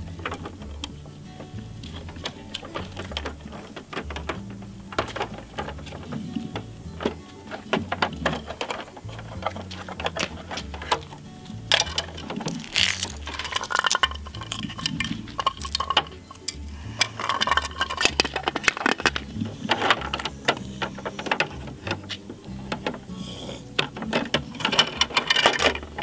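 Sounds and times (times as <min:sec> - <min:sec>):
background music with bass line: 0:00.0 - 0:26.0
plastic toy clicking and clattering: 0:00.0 - 0:26.0.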